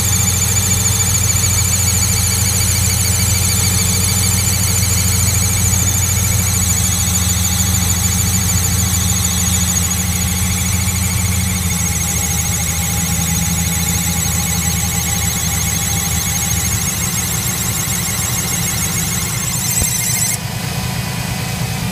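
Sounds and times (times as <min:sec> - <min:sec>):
high-pitched wavering whine: 0:00.0 - 0:21.8
engine idling: 0:00.0 - 0:21.9.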